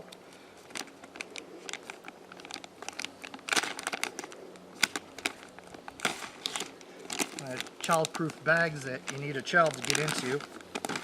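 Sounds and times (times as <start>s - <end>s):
plastic bag crinkling: 0.4s - 11.0s.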